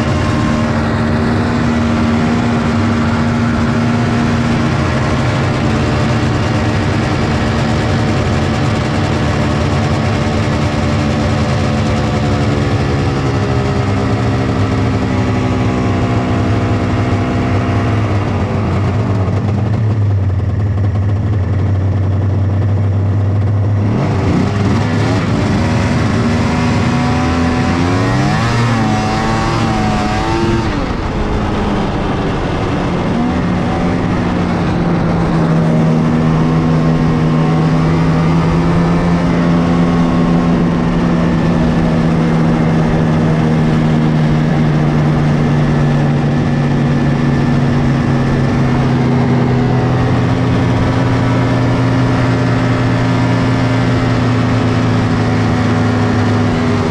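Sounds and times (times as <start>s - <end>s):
snowmobile two-stroke engine running: 0.0s - 56.9s.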